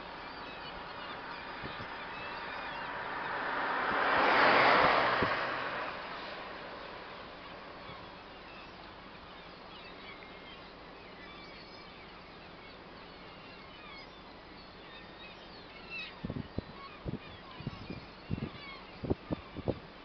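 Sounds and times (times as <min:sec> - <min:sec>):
seagulls calling: 0:00.0 - 0:20.0
waves: 0:00.0 - 0:20.0
wind: 0:00.0 - 0:20.0.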